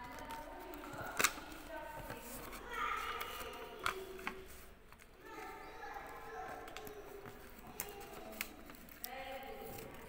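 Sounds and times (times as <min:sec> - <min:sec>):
paper folding clicks: 0:00.0 - 0:10.0.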